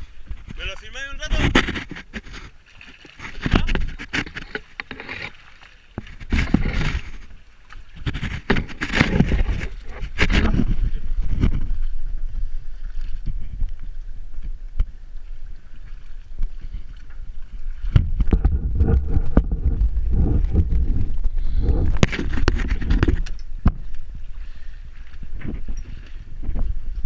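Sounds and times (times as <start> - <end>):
wind on microphone: 0.0 - 5.3, 6.0 - 27.0
water splashing around kayak: 0.0 - 27.0.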